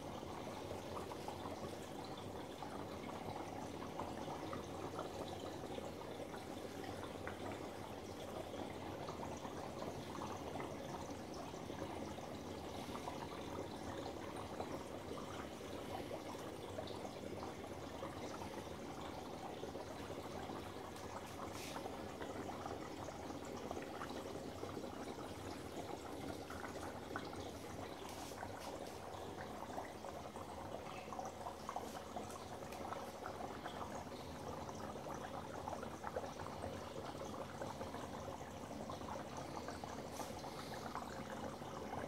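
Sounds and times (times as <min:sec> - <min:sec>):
dry ice bubbling in water: 0:00.0 - 0:42.0.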